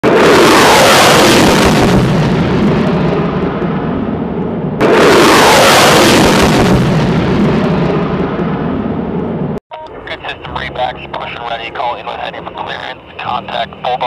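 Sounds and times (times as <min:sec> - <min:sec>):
jet passing low overhead: 0:00.0 - 0:14.0.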